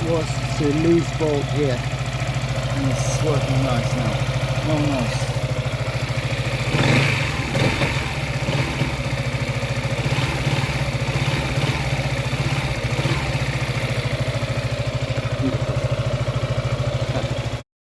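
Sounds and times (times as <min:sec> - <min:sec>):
scooter engine idling: 0:00.0 - 0:17.6.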